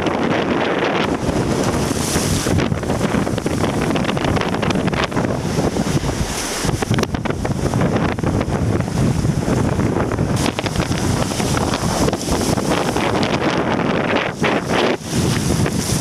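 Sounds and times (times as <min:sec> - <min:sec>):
sea water rushing: 0:00.0 - 0:16.0
strong wind buffeting microphone: 0:00.0 - 0:16.0.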